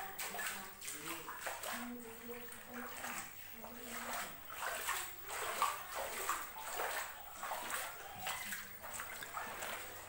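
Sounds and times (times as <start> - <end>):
footsteps wading through water: 0.0 - 10.0
water sloshing and splashing: 0.0 - 10.0.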